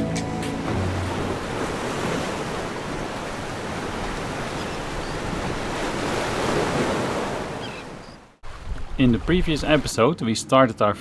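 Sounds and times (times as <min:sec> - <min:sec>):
wind: 0:00.0 - 0:11.0
sea waves rushing: 0:00.3 - 0:10.0.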